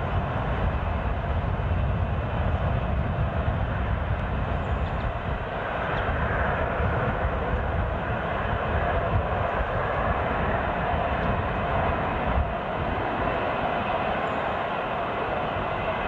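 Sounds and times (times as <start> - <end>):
jet engines at taxi power: 0.0 - 16.0.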